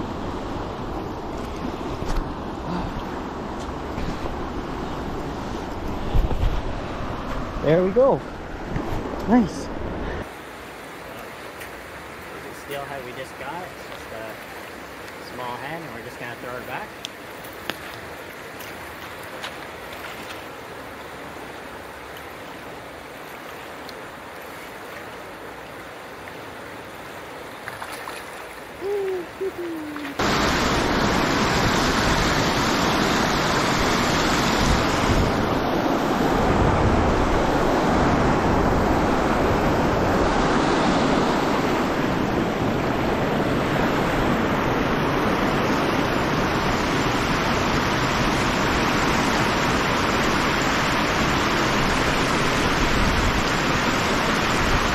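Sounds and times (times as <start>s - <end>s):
quiet river flow: 0.0s - 54.9s
river rushing over rapids: 0.0s - 54.9s.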